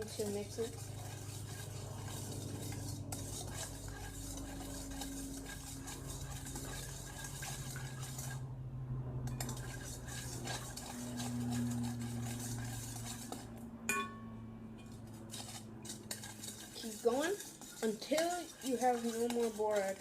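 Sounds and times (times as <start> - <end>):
spoon clinking and scraping bowl: 0.0 - 8.4, 9.2 - 20.0
low hum: 0.0 - 17.2.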